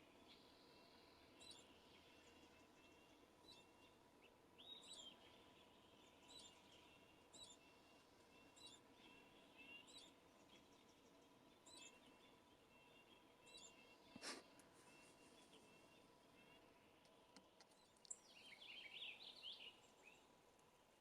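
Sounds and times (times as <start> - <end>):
faint bird calls: 0.0 - 20.3.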